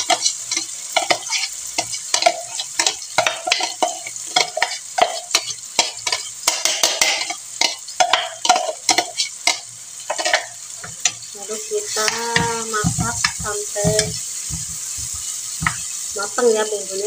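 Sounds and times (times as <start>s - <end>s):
metal spoon scraping and tapping: 0.0s - 11.3s, 12.0s - 15.9s
paste sizzling in hot oil: 0.0s - 17.0s.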